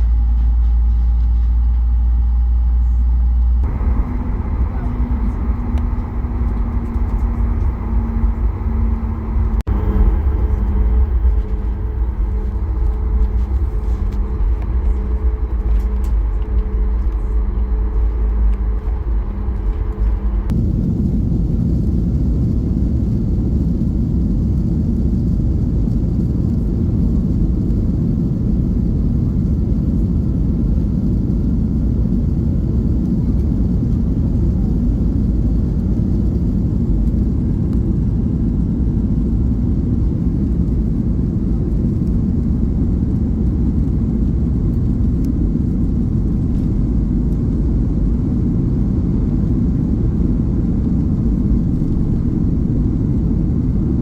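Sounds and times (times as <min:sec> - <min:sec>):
airplane engines rumbling in cabin: 0:00.0 - 0:54.0.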